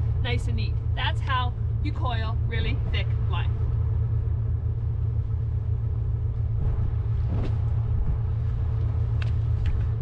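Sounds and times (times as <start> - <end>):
faint hum: 0.0 - 10.0
steady low rumble: 0.0 - 10.0.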